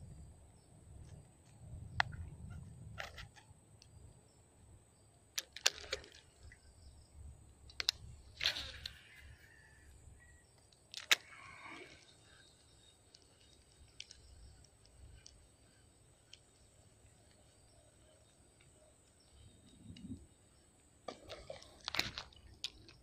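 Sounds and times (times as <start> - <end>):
high-pitched insect hum: 0.0 - 21.0.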